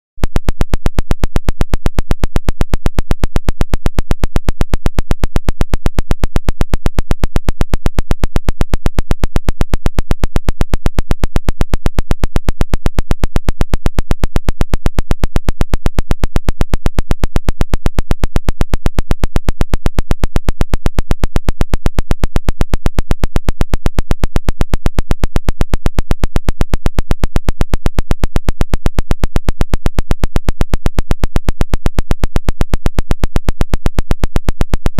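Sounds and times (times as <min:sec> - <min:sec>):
radio interference clicking pulses: 0:00.2 - 0:34.9.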